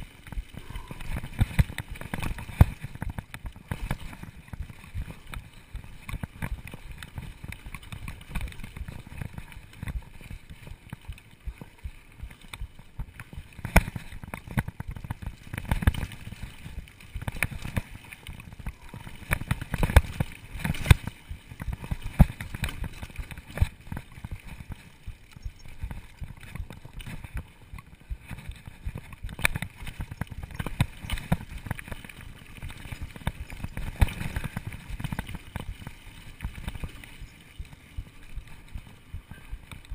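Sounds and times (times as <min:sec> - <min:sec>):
bike knocking and rattling: 0:00.0 - 0:39.9
bike tyres rumbling on dirt: 0:00.0 - 0:39.9.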